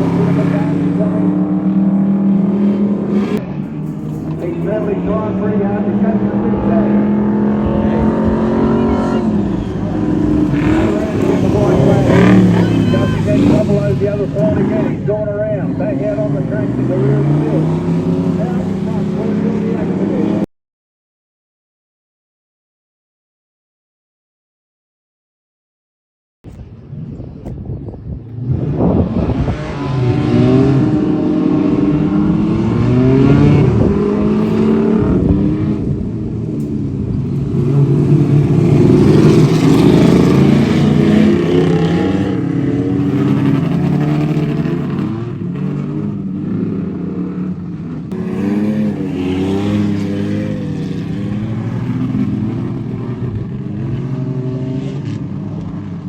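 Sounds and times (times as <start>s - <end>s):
race car engines revving: 0.0s - 20.5s, 26.6s - 56.0s.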